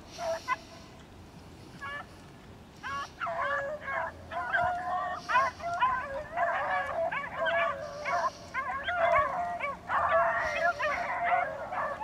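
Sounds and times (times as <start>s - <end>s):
dogs baying and howling: 0.1s - 0.8s, 2.8s - 12.0s.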